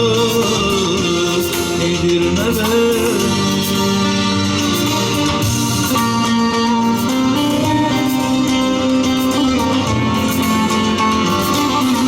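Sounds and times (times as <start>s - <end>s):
keyboard: 0.0s - 12.0s
live folk band playing: 0.0s - 12.0s
plucked strings: 0.0s - 12.0s.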